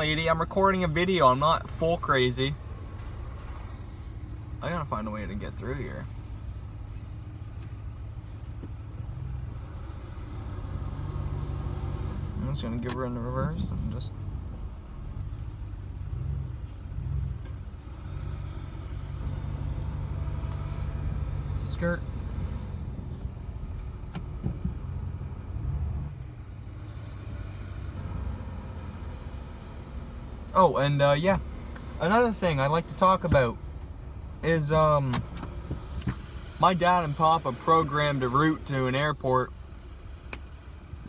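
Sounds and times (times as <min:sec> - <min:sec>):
pickup truck engine rumbling: 0:00.0 - 0:41.0.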